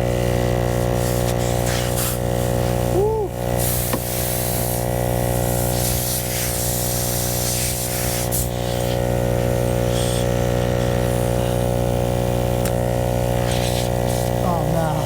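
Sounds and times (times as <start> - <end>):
electric air compressor running: 0.0 - 15.0
air hissing: 0.7 - 14.4.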